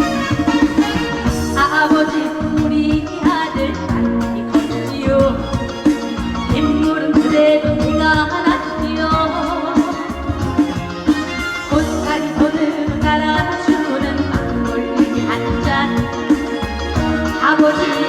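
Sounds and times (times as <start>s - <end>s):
band playing steady beat: 0.0s - 18.0s
woman singing: 0.0s - 18.0s.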